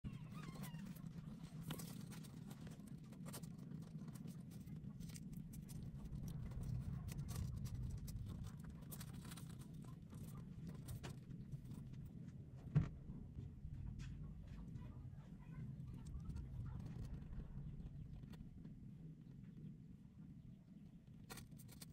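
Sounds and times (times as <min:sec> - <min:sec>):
low steady rumble: 0:00.1 - 0:21.9.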